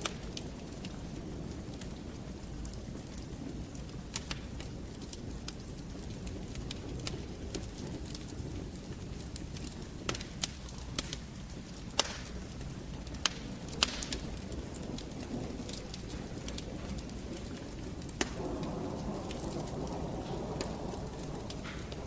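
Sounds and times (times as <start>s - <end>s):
fire flames rumbling: 0.0s - 22.0s
wood fire crackling and popping: 0.0s - 22.0s.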